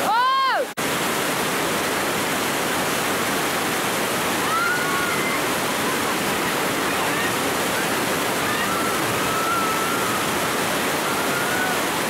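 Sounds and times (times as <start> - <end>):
river rapids roaring: 0.0 - 12.0.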